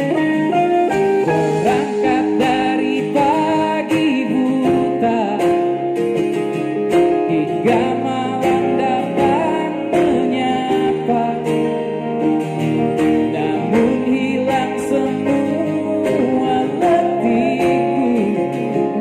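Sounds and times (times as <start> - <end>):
electric and acoustic guitars: 0.0 - 19.0
man singing: 0.0 - 19.0.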